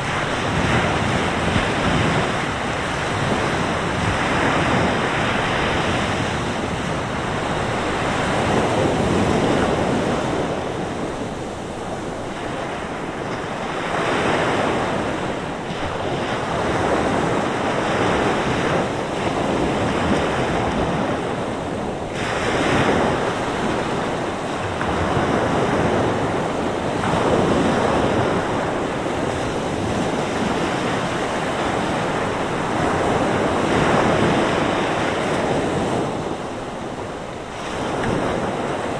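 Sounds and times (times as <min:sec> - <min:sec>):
waves breaking on beach: 0:00.0 - 0:38.9
wind blowing: 0:00.0 - 0:38.9.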